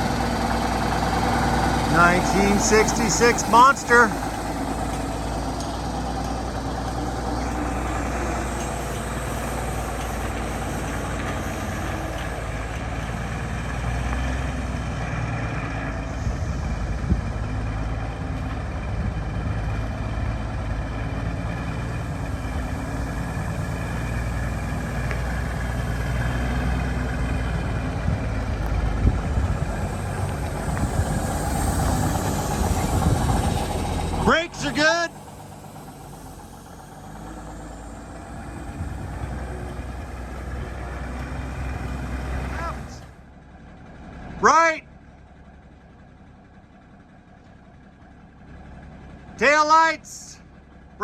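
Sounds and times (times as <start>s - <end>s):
diesel truck engine idling: 0.0s - 51.0s.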